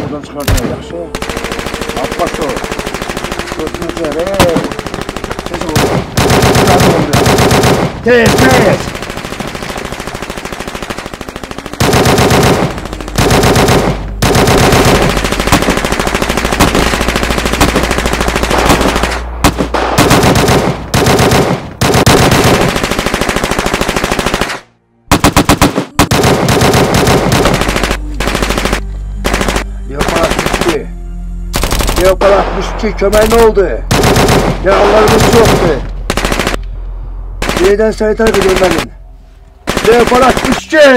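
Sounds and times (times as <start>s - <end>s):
rapid automatic gunfire: 1.2s - 30.8s, 31.6s - 32.2s, 33.1s - 36.6s, 37.4s - 39.0s, 39.6s - 40.9s.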